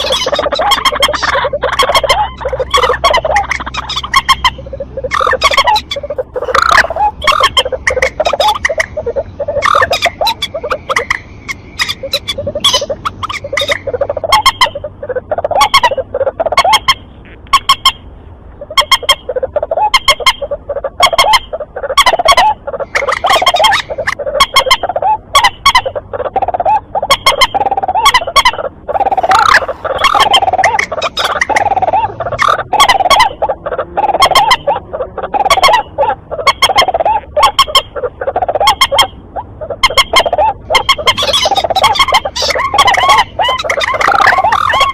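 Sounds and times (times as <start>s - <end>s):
harsh bird calls: 0.0s - 44.9s.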